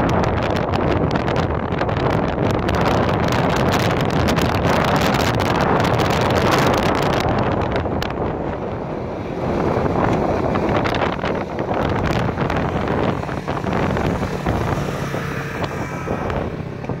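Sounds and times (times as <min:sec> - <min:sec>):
utility vehicle engine under load: 0:00.0 - 0:17.0
wind buffeting microphone: 0:00.0 - 0:17.0.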